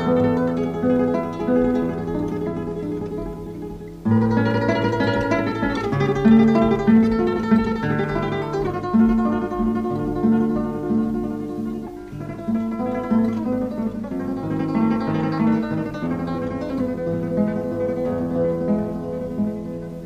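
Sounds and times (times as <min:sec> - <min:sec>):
flamenco guitar music: 0:00.0 - 0:20.0.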